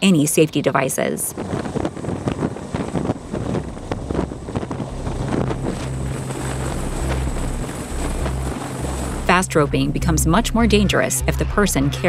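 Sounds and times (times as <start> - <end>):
rotor downwash buffeting microphone: 1.3 - 12.0
helicopter hovering: 1.9 - 12.0.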